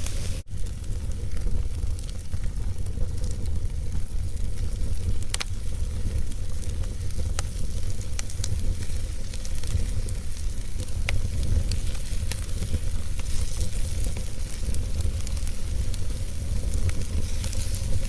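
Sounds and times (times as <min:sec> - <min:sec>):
fireplace fire crackling: 0:00.0 - 0:18.0.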